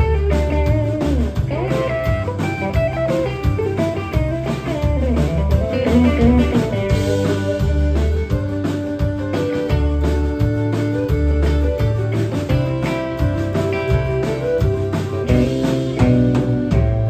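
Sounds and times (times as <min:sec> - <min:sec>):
live country band playing: 0:00.0 - 0:17.0.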